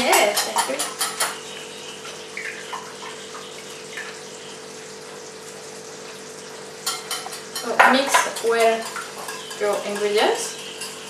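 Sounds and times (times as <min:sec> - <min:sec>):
kitchen background hiss: 0:00.0 - 0:11.0.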